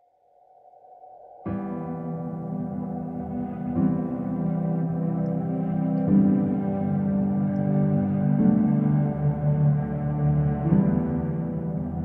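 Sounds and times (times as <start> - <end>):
ambient music of held chords: 0.3 - 12.0.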